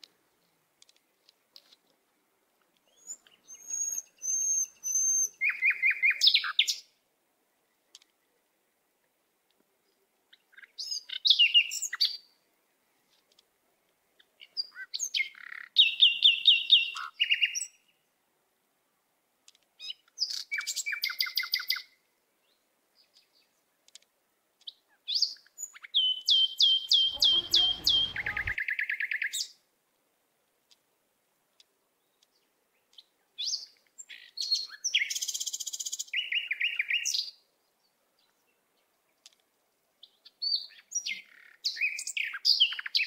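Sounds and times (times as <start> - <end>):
songbird singing: 0.0 - 18.2, 19.4 - 29.7, 31.5 - 43.0.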